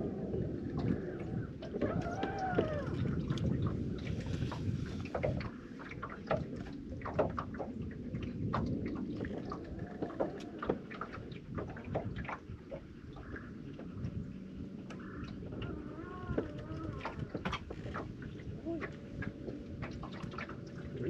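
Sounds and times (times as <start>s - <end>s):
waves lapping against hull: 0.0s - 21.0s
wind rumbling on microphone: 0.0s - 21.0s.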